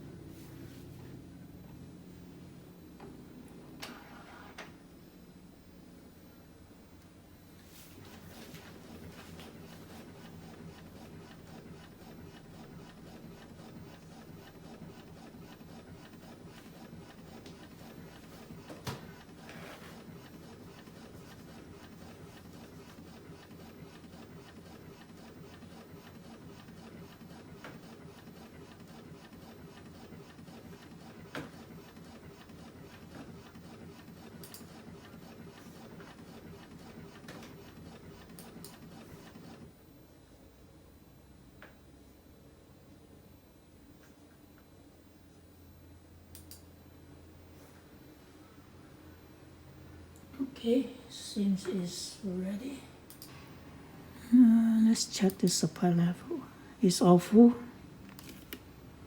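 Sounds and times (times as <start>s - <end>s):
printer mechanical hum: 0.0s - 59.0s.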